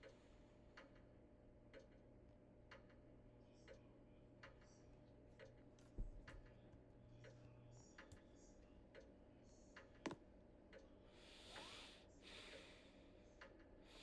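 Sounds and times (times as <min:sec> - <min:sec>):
ceiling fan faint hum: 0:00.0 - 0:14.0.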